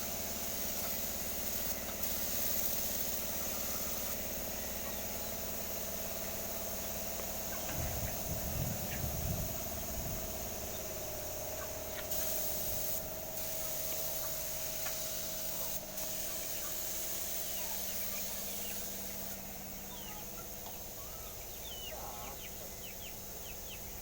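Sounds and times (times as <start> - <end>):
high hiss: 0.0 - 20.3
steady mechanical hum: 0.0 - 24.0
small birds chirping: 0.6 - 5.6, 6.2 - 12.4, 15.5 - 24.0.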